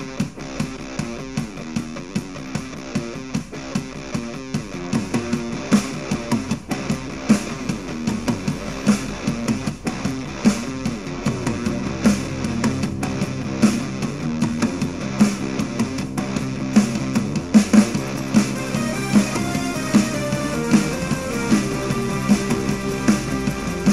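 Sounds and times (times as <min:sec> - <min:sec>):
punk rock music through speaker: 0:00.0 - 0:23.9.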